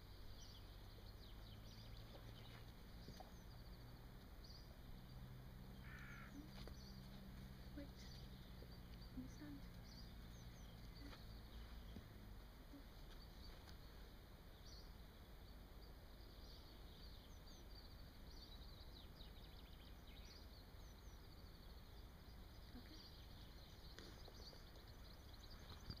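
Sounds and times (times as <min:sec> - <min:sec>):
distant small birds chirping: 0:00.0 - 0:26.0.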